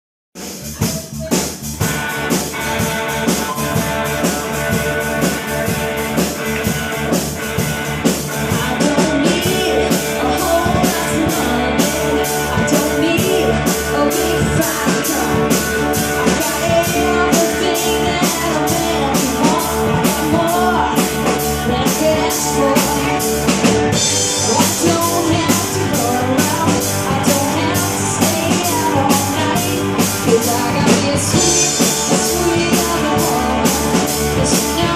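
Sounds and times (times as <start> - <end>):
drum kit beating: 0.4 - 34.9
electric guitar: 0.4 - 34.9
live rock band playing: 0.4 - 34.9.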